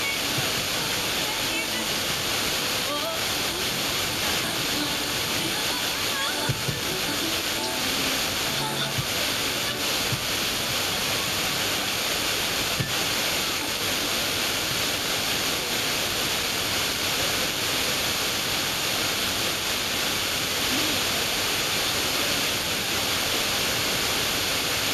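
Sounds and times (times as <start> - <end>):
radio static hiss: 0.0 - 24.9.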